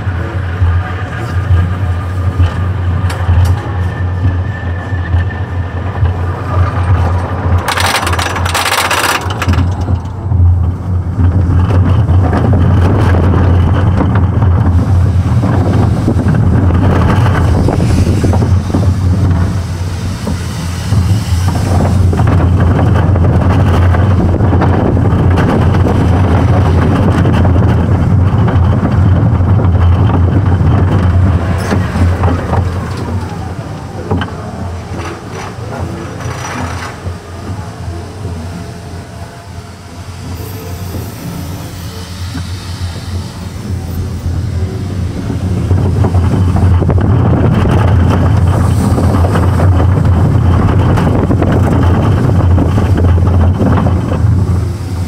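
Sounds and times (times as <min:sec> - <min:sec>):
roller coaster rumbling on track: 0:00.0 - 0:55.0
rushing wind noise: 0:00.0 - 0:55.0.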